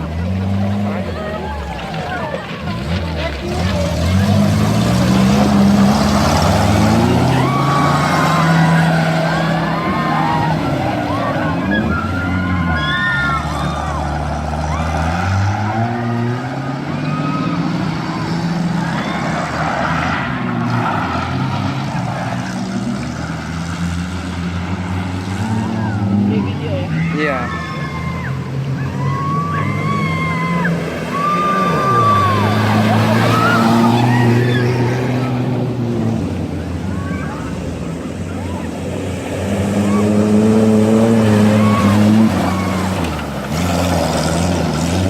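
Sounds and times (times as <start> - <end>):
jeep engine running: 0.0 - 45.0
road noise: 0.0 - 45.0
wind: 0.0 - 45.0.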